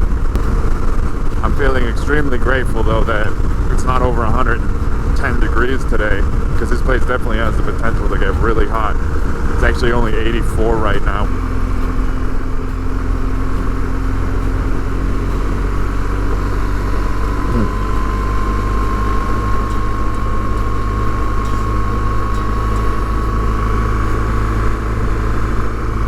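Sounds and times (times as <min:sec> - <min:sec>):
motorcycle engine drone: 0:00.0 - 0:26.0
wind rush: 0:00.0 - 0:26.0.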